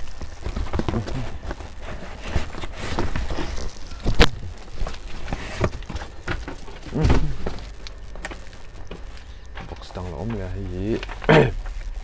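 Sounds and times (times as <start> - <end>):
packaging rustling and knocking: 0.0 - 11.2.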